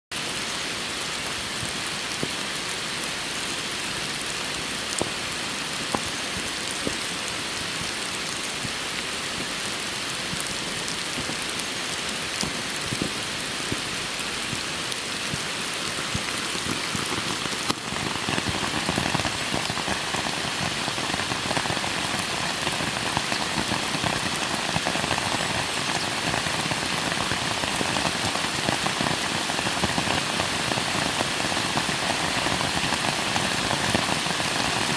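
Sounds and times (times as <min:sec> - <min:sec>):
rain falling: 0:00.1 - 0:34.9
raindrop ticks: 0:01.2 - 0:34.9.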